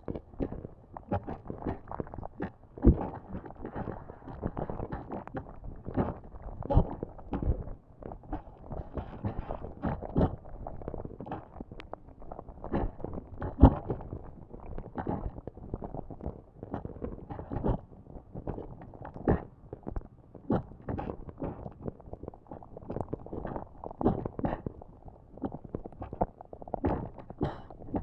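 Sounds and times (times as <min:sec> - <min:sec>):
lava bubbling and popping: 0:00.0 - 0:28.0.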